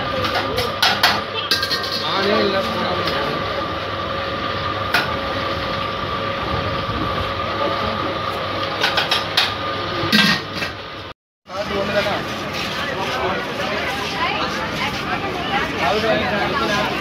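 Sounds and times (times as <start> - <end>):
stove burner roaring: 0.0 - 13.8.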